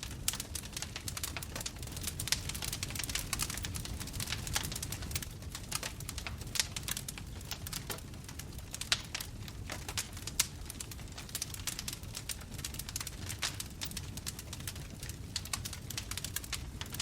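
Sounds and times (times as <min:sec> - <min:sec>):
bonfire flames rumbling: 0:00.0 - 0:17.0
burning wood snapping and popping: 0:00.0 - 0:17.0.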